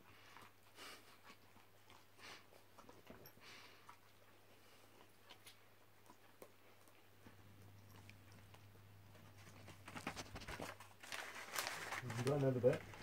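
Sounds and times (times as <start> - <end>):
low steady hum: 0.1 - 13.0
dog chewing mouth clicks: 0.3 - 10.8.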